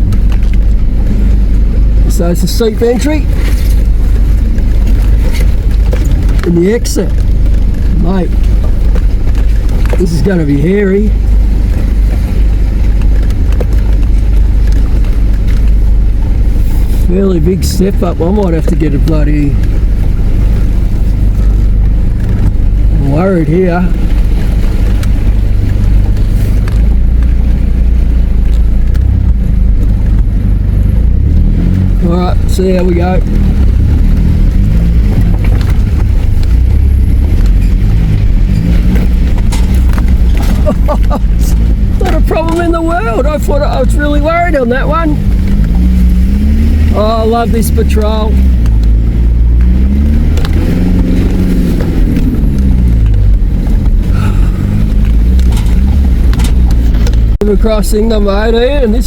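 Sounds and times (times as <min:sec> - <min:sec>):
vehicle rumbling over rough ground: 0:00.0 - 0:59.0.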